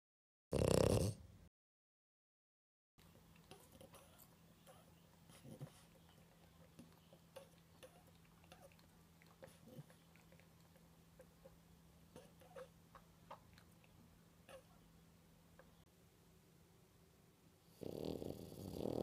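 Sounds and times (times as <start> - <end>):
low room hum: 3.0 - 19.0.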